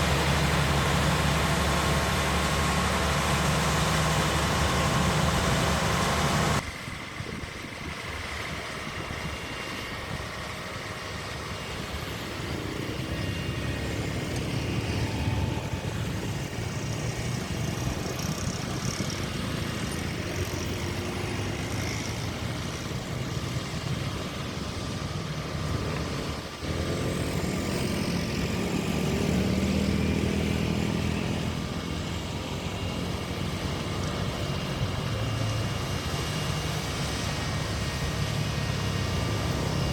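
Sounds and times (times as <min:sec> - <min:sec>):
road roller diesel engine: 0:00.0 - 0:39.9.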